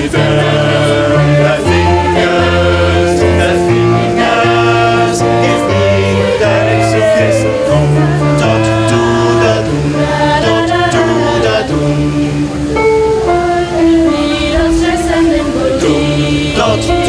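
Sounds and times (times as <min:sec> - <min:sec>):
mixed choir singing chords: 0:00.0 - 0:17.0.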